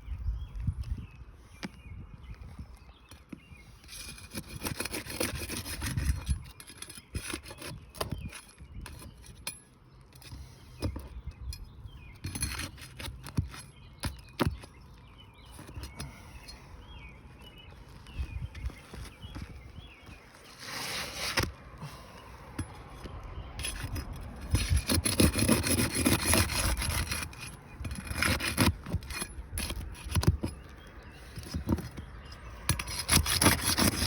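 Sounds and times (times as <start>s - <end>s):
tools scraping on shingles: 3.0s - 34.0s.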